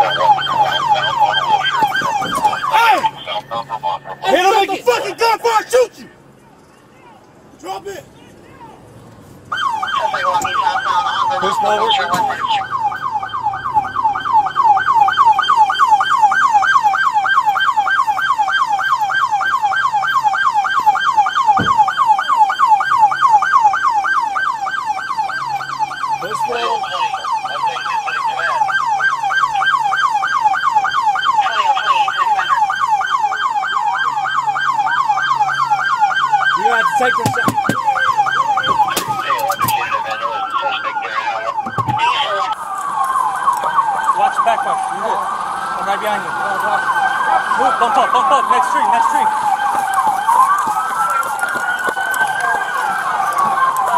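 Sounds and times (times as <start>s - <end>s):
second siren slower wail: 0.0s - 6.1s, 9.5s - 53.9s
police siren yelp: 0.0s - 6.7s, 9.5s - 53.9s.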